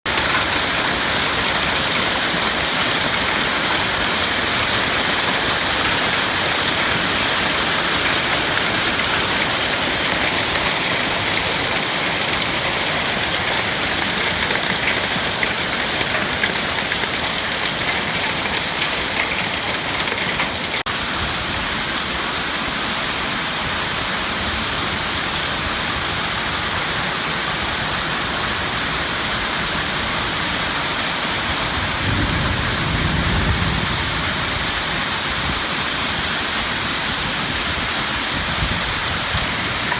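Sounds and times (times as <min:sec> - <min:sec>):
hail and heavy rain falling: 0:00.0 - 0:39.9.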